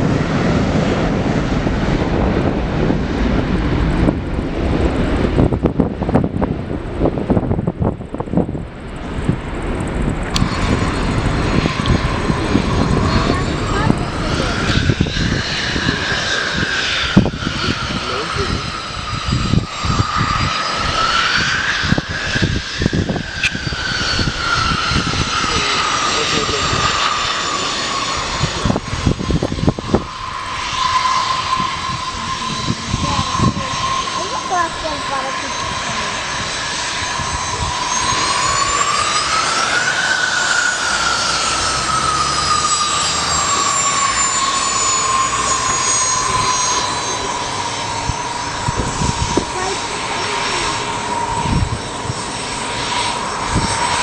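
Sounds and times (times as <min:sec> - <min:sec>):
jet engines whining: 0:00.0 - 0:54.0
low rumbling: 0:00.0 - 0:54.0.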